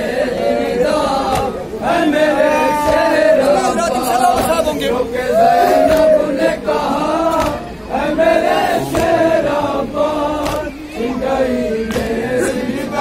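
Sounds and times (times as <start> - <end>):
men chanting a sad lament: 0.0 - 13.0.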